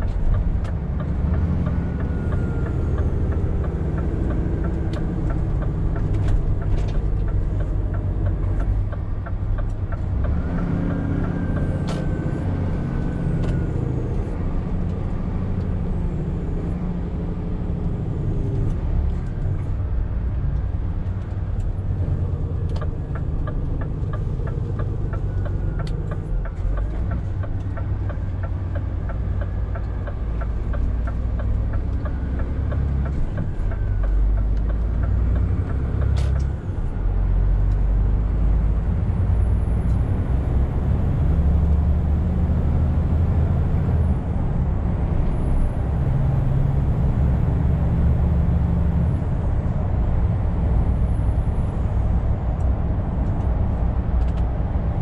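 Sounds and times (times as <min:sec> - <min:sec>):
road noise: 0:00.0 - 0:55.0
truck diesel engine running: 0:00.0 - 0:55.0.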